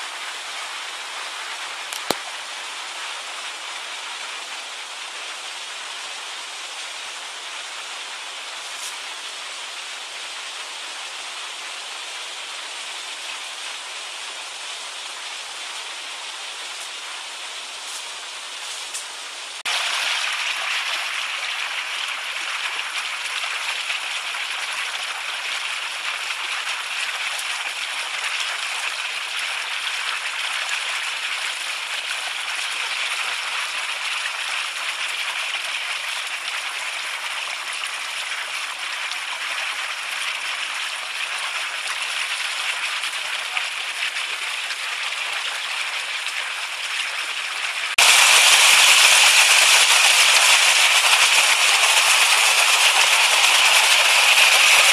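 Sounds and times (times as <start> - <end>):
stream running over stones: 0.0 - 54.9.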